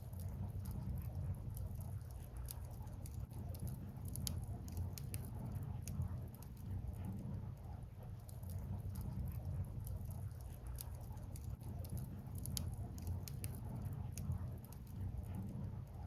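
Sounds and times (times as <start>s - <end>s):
open fire crackling and popping: 0.0s - 16.0s.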